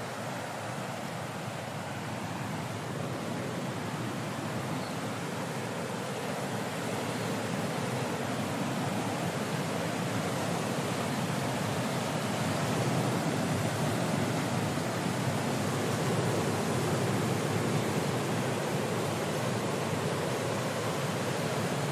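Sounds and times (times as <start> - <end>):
ocean surf on rocky shore: 0.0 - 21.9.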